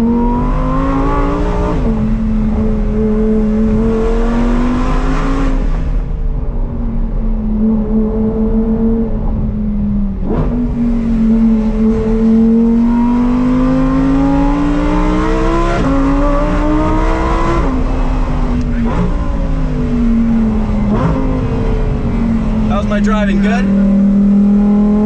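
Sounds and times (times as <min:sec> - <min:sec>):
sports car engine accelerating: 0:00.0 - 0:25.0.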